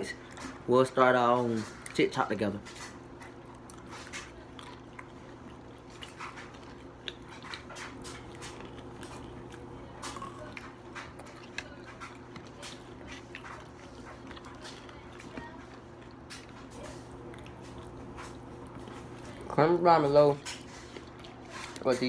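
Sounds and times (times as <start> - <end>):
chewing crunchy food: 0.0 - 22.0
steady low hum: 0.0 - 22.0.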